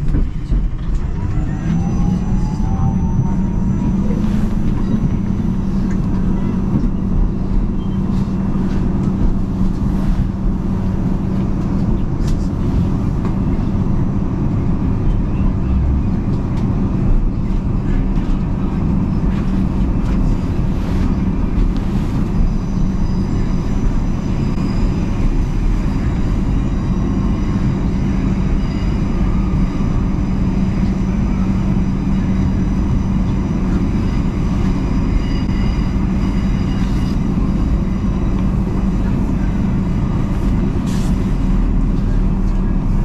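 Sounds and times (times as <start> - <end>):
electric train humming: 0.0 - 43.0
wheels rumbling on track: 0.0 - 43.0.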